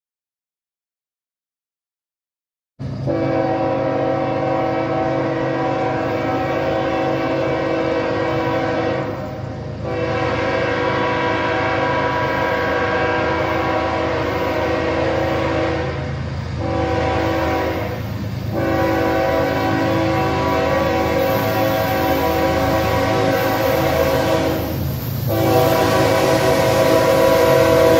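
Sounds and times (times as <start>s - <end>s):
locomotive air horn blasts: 3.0s - 27.9s.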